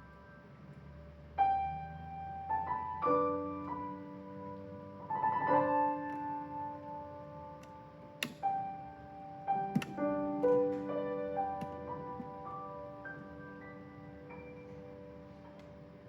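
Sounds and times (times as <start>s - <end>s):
soft piano playing: 0.0s - 16.0s.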